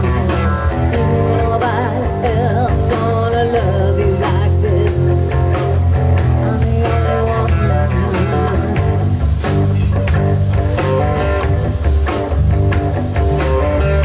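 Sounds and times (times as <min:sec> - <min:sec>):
bass guitar: 0:00.0 - 0:14.0
drums: 0:00.0 - 0:14.0
electric guitar: 0:00.0 - 0:14.0.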